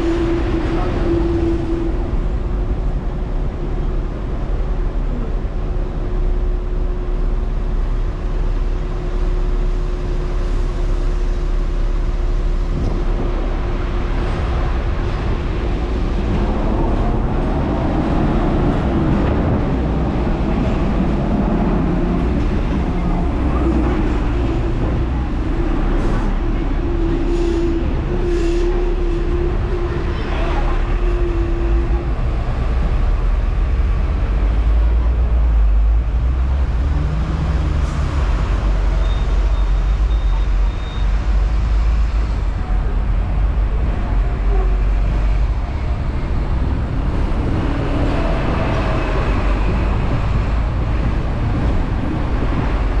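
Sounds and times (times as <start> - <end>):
tram rumbling on rails: 0.0 - 53.0.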